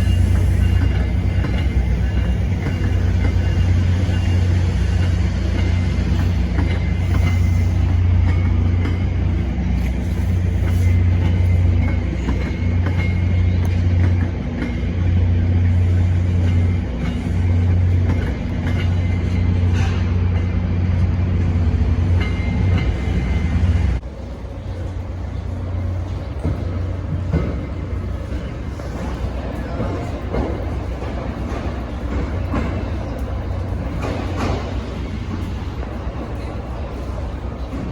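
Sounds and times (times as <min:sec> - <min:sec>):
train locomotive humming: 0:00.0 - 0:37.9.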